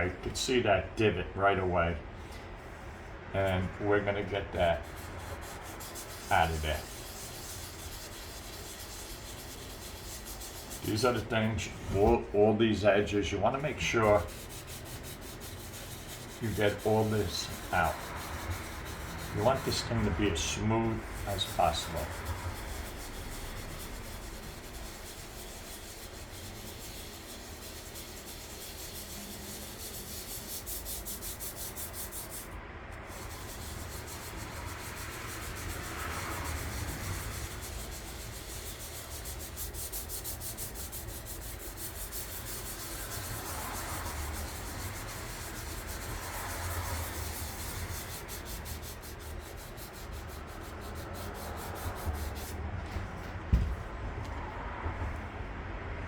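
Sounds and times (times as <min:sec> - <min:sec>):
sandpaper rubbing by hand: 0:04.6 - 0:53.1.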